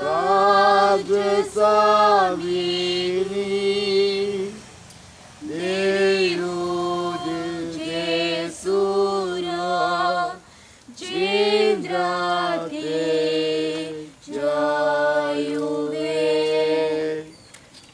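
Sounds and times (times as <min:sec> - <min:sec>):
unaccompanied choir singing: 0:00.0 - 0:17.5.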